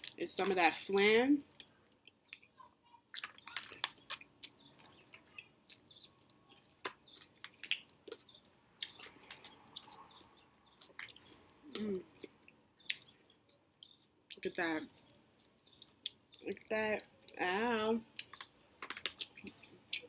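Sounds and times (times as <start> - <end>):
person chewing food: 1.4 - 17.4, 18.1 - 20.0.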